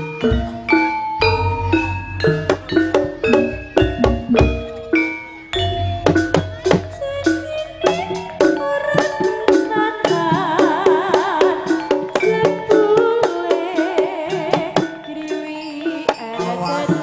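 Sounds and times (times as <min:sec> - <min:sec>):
gamelan music: 0:00.0 - 0:17.0
ringing metallophone and gong notes: 0:00.0 - 0:17.0
wavering vibrato melody: 0:00.0 - 0:17.0.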